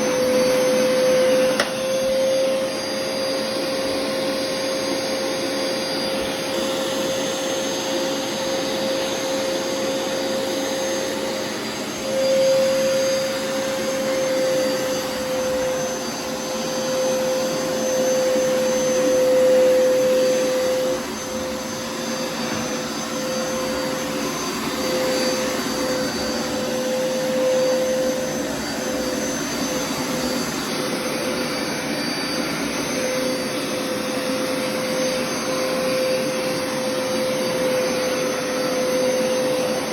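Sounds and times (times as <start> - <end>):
vacuum motor running on carpet: 0.0 - 39.9.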